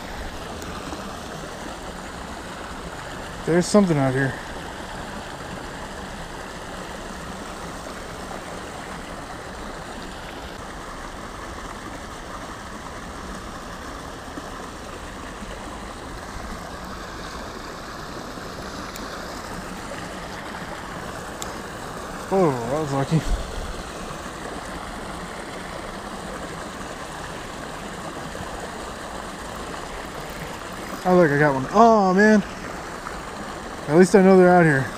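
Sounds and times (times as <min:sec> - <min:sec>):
creek water rushing: 0:00.0 - 0:34.9.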